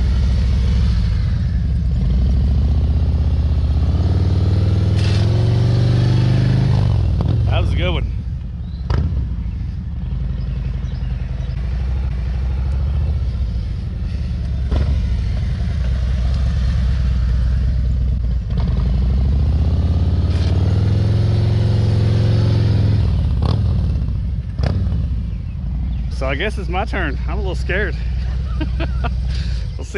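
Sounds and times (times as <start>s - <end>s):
motorcycle engine at low revs: 0.0s - 29.9s.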